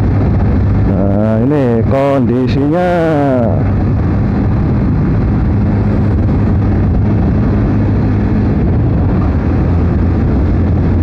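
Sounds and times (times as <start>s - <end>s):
motorcycle engine humming: 0.0s - 11.0s
wind rushing: 0.0s - 11.0s.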